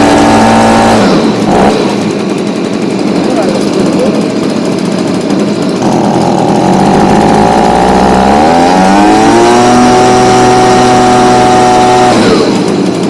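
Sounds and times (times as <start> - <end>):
leaf blower engine revving: 0.0 - 13.0.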